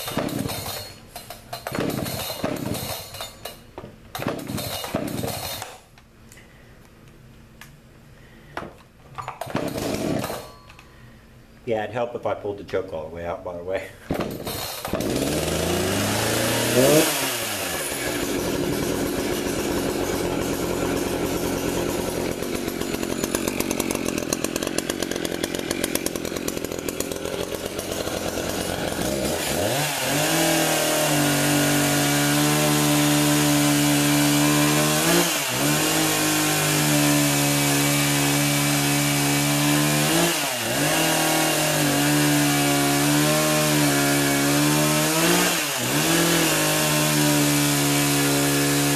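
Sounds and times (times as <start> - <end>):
chainsaw revving and cutting log: 0.0 - 1.0, 1.6 - 3.2, 4.2 - 5.7, 9.5 - 10.6, 14.1 - 48.9.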